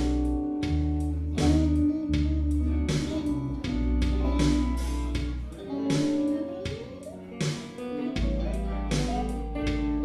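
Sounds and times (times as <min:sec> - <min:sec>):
guitar music with beat: 0:00.0 - 0:10.0.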